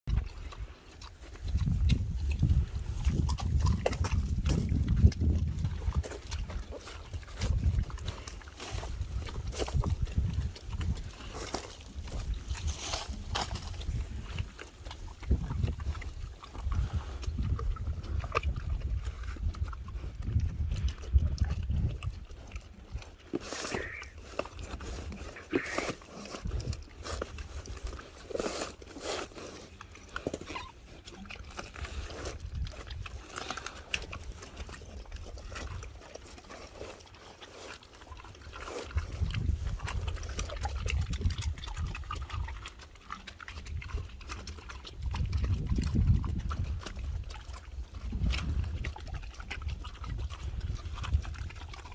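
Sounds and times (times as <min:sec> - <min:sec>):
pigs crunching and chomping food: 0:00.1 - 0:51.9.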